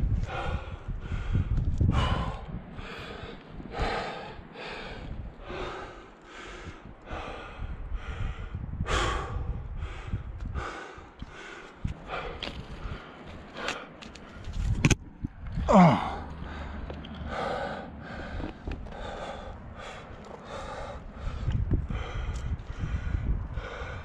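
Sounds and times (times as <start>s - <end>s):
heavy rapid breathing: 0.1s - 14.7s, 15.6s - 24.0s.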